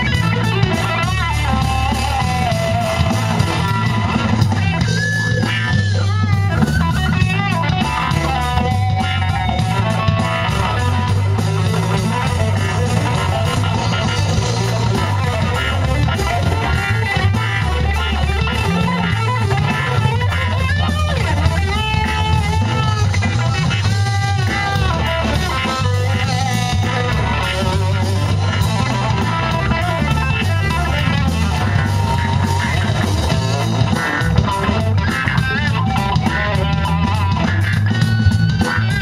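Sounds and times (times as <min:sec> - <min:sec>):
bass guitar: 0:00.0 - 0:39.0
drum kit: 0:00.0 - 0:39.0
electric guitar lead line: 0:00.0 - 0:39.0.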